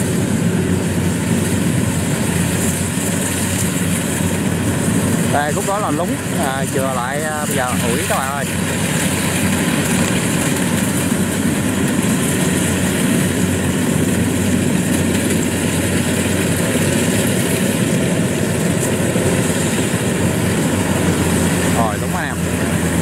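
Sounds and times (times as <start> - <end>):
combine harvester engine hum: 0.0 - 23.0.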